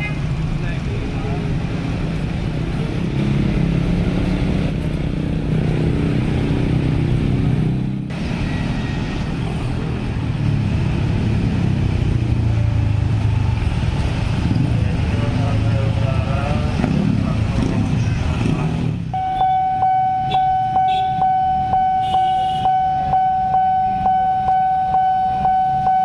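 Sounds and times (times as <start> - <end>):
motorcycle and car traffic: 0.0 - 26.0.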